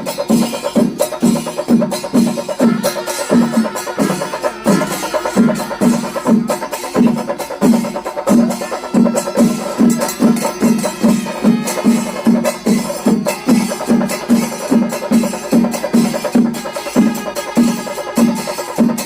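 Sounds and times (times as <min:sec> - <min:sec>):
clatter of sticks and cymbals: 0:00.0 - 0:19.0
drum ensemble playing: 0:00.0 - 0:19.0.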